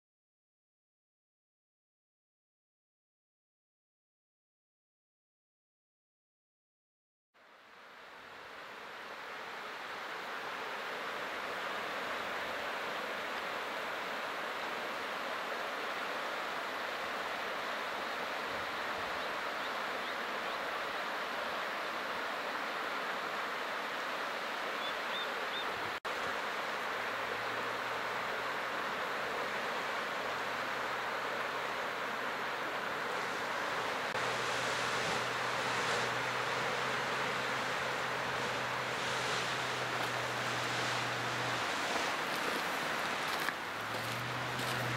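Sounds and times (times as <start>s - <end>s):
boiling water rushing: 7.6s - 44.9s.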